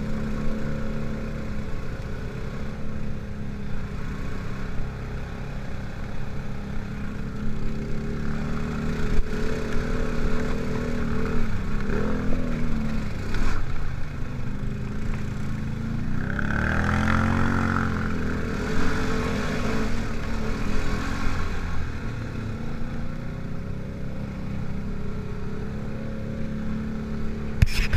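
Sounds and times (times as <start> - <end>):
quad bike engine running: 0.0 - 27.9.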